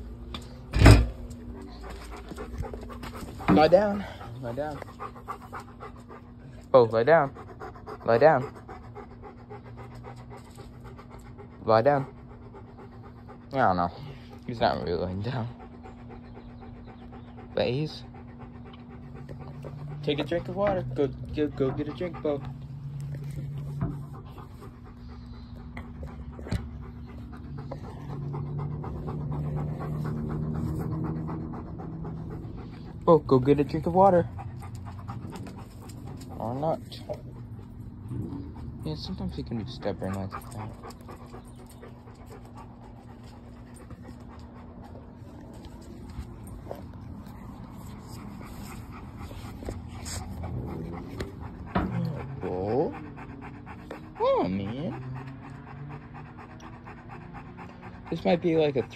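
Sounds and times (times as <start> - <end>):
dog panting: 0.0 - 58.9.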